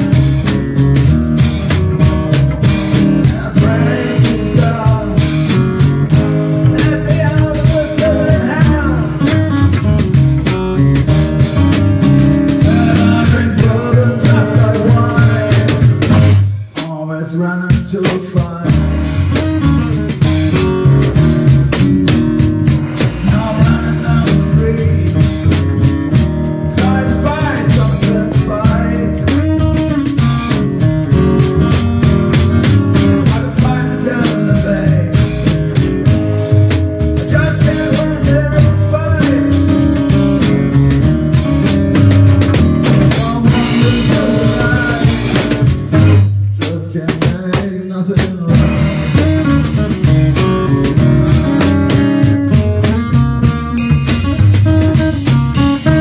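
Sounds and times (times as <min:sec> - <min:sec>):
band music with guitar and drums: 0:00.0 - 0:56.0.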